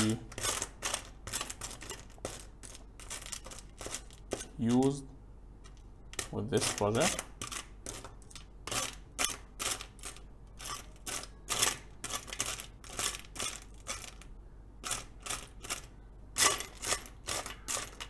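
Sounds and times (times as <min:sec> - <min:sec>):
metal screws clicking and rattling: 0:00.0 - 0:05.0, 0:05.6 - 0:18.0.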